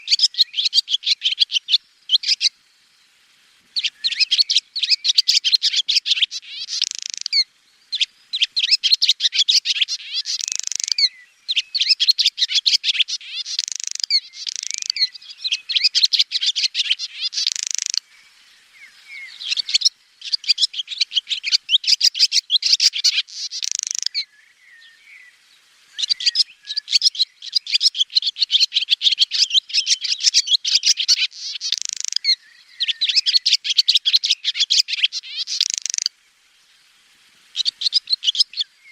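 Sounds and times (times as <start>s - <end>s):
swallow twittering: 0.0s - 2.6s, 3.8s - 36.1s, 37.5s - 38.9s.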